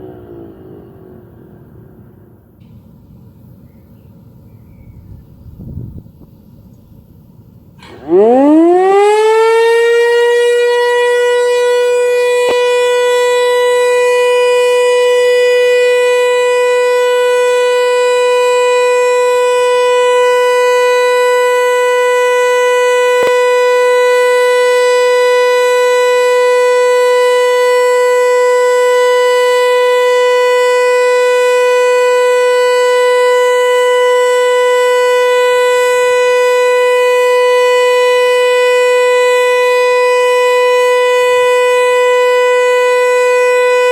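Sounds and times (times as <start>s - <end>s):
siren steady tone: 0.0s - 43.9s.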